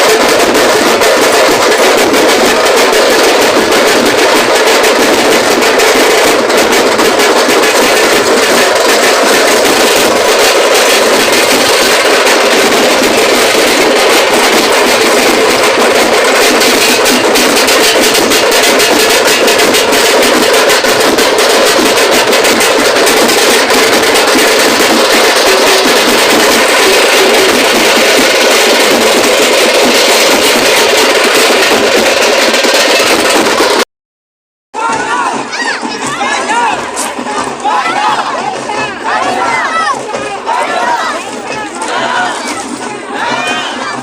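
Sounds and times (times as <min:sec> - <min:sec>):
festival drum music: 0:00.0 - 0:33.9, 0:34.7 - 0:44.0.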